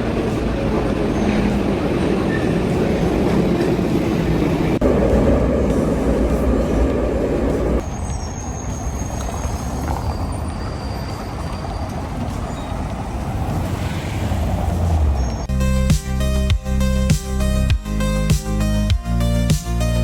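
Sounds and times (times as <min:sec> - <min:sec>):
large vehicle rumbling: 0:00.0 - 0:16.5.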